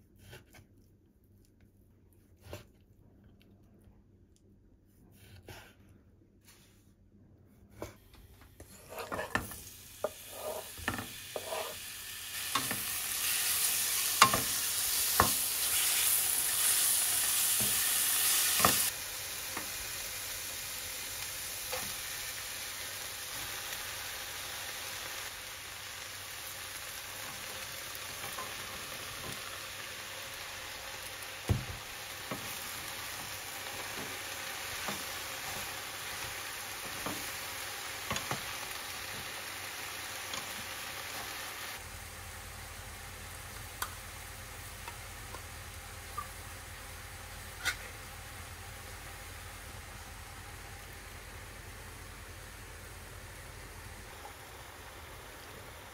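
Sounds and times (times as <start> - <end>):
food sizzling in a frying pan: 8.8 - 55.9.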